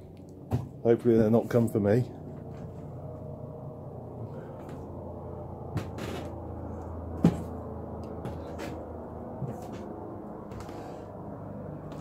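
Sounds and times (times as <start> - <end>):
distant helicopter drone: 0.0 - 12.0.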